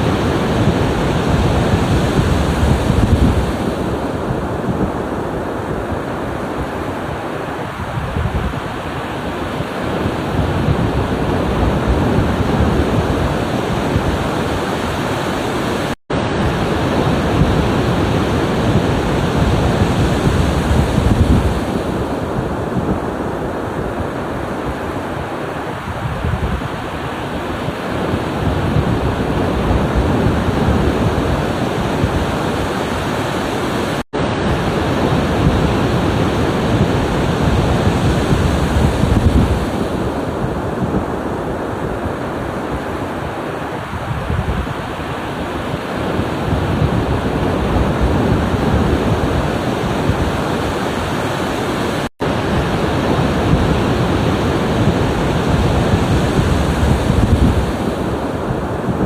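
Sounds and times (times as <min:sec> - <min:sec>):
ocean surf breaking on shore: 0:00.0 - 0:59.0.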